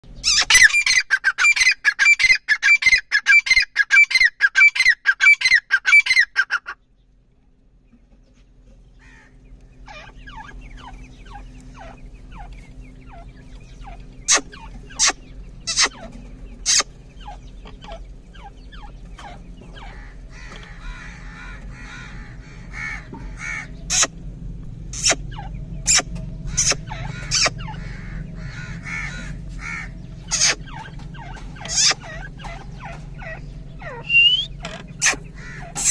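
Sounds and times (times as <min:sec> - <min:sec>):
chicks peeping: 0:00.0 - 0:07.2, 0:07.8 - 0:35.9
bird harsh repeated calls: 0:00.1 - 0:06.8, 0:08.3 - 0:35.9
steady low hum: 0:06.2 - 0:35.9.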